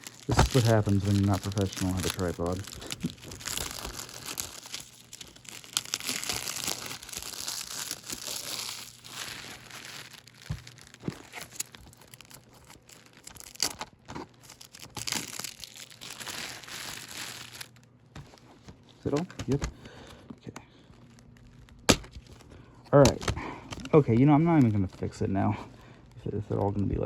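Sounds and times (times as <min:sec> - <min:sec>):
plastic shrink wrap crinkling: 0:00.0 - 0:27.0.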